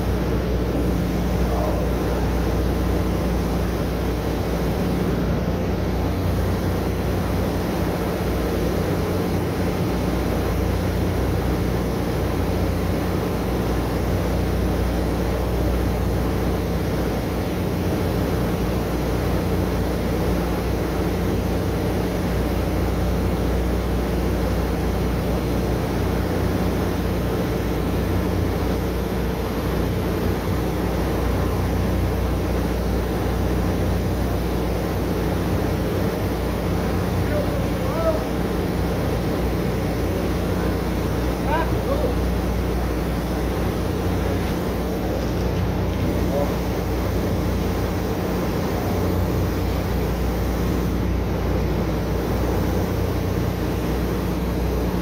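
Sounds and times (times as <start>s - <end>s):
drilling rig machinery hum: 0.0s - 55.0s.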